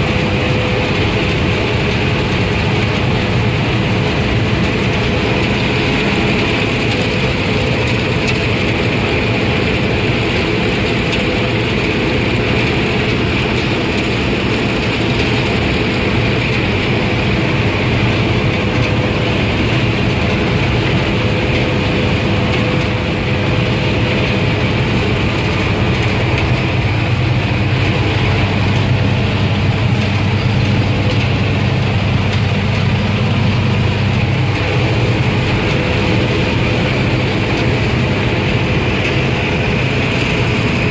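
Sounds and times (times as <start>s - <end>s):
combine harvester machinery drone: 0.0s - 40.9s.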